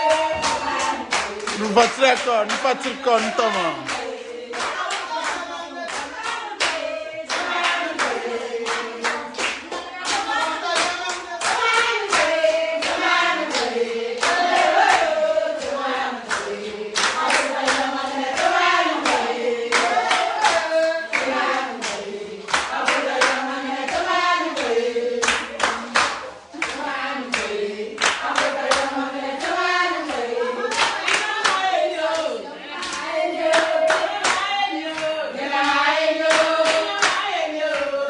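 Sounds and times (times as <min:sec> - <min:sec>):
rhythmic hand-clapping: 0:00.0 - 0:38.0
women singing together: 0:00.0 - 0:38.0.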